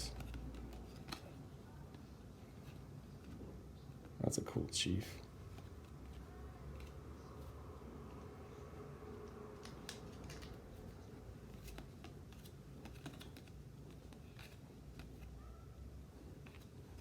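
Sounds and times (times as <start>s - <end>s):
cards clicking and tapping: 0.0s - 4.2s, 5.3s - 8.2s, 9.2s - 15.4s, 16.1s - 17.0s.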